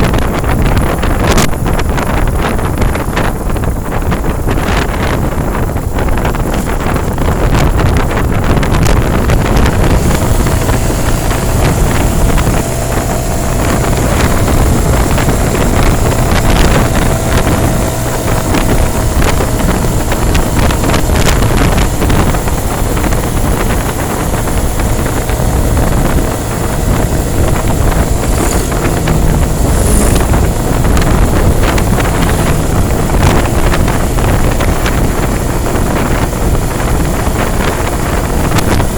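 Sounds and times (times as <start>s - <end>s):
moving vehicle road noise: 0.0s - 38.9s
wind buffeting microphone: 0.0s - 38.9s.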